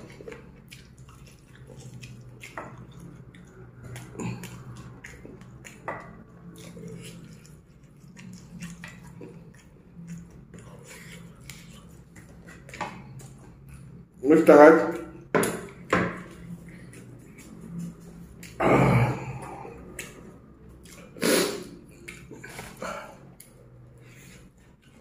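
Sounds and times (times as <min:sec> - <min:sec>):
person chewing food: 0:00.0 - 0:14.2, 0:14.9 - 0:25.0.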